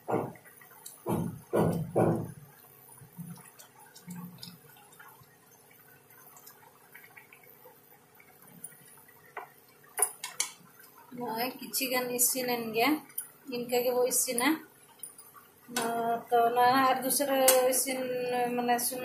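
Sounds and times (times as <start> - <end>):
water boiling gently: 0.0 - 19.0.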